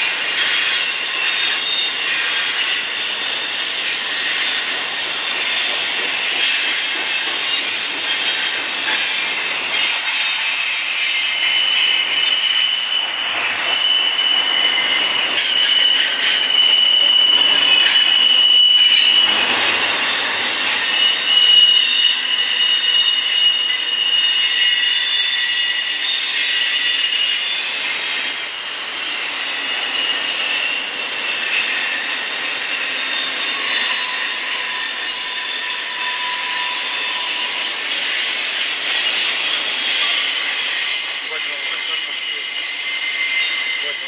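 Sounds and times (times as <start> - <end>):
rail cars rolling rumble: 0.0 - 44.0
train wheels squealing: 0.0 - 44.0.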